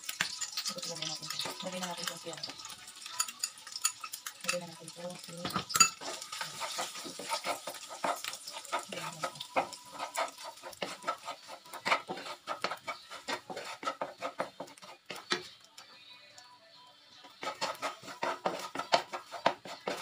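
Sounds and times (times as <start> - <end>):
spatula scraping a wok: 0.0 - 16.0, 17.1 - 20.0
oil sizzling: 0.0 - 16.5, 17.2 - 20.0.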